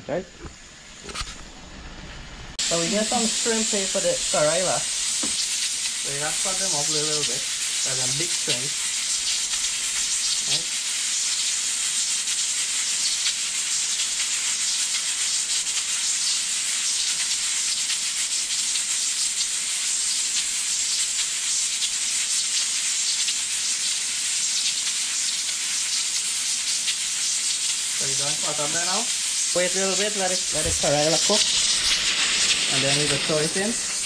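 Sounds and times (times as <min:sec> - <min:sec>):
vegetables sizzling in hot oil: 0:00.5 - 0:34.0.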